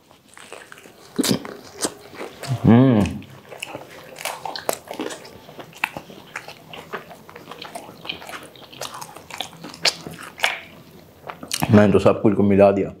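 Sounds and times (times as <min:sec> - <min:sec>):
chewing food: 0:00.0 - 0:11.9.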